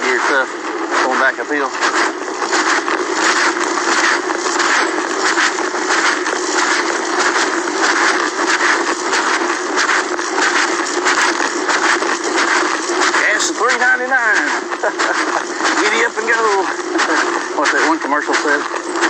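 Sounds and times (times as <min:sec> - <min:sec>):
microphone crackles: 0:00.0 - 0:19.0
bicycle rolling on road: 0:00.8 - 0:19.0.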